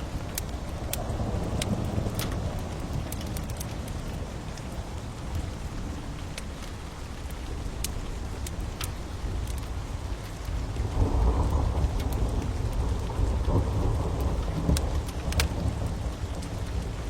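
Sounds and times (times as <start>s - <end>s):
low thunder rumble: 0.0s - 6.6s, 9.3s - 17.0s
steady rain: 0.0s - 17.0s
wood fire crackling: 0.0s - 17.0s.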